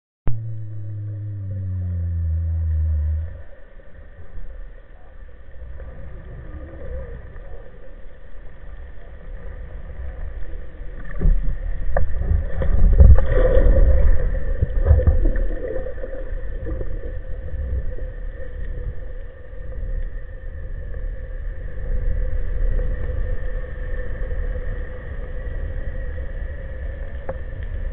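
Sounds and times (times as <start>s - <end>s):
faint steady hum: 0.3s - 27.9s
underwater rumble of moving water: 0.3s - 27.9s.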